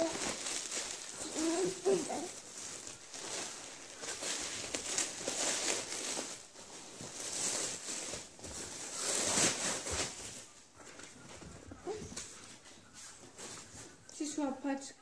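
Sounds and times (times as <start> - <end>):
plastic bag rustling and crinkling: 0.0 - 14.6.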